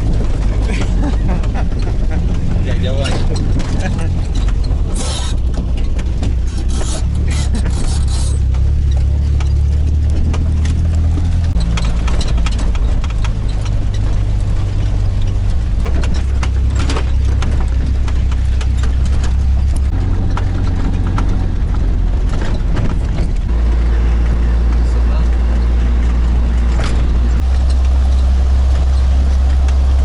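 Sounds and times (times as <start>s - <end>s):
car engine running: 0.0s - 30.0s
knocks and rattles over bumps: 0.0s - 30.0s.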